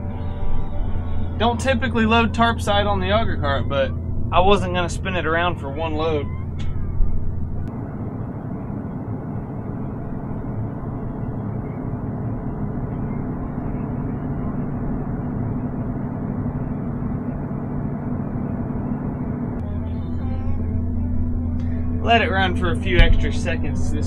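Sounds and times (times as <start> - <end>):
combine mechanical drone: 0.0 - 24.0.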